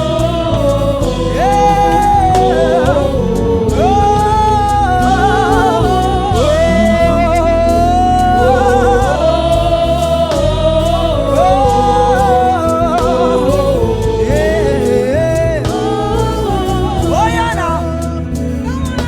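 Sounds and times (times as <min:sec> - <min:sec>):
band with bass and drums: 0:00.0 - 0:19.0
voices singing gospel harmony: 0:00.0 - 0:19.0.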